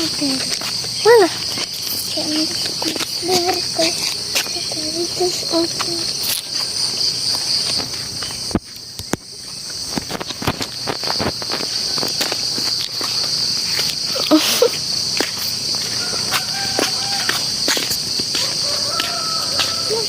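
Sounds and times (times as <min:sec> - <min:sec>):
footsteps on a path: 0:00.0 - 0:20.0
high-pitched insect chorus: 0:00.0 - 0:20.0.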